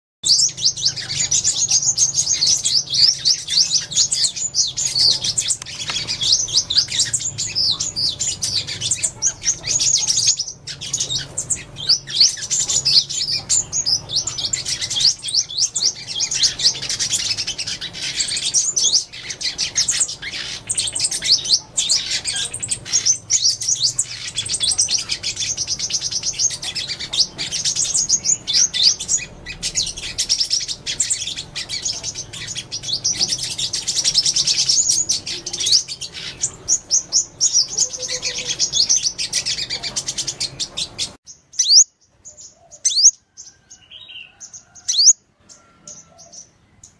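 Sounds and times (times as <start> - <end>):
sunbirds chirping and trilling: 0.2 - 46.9.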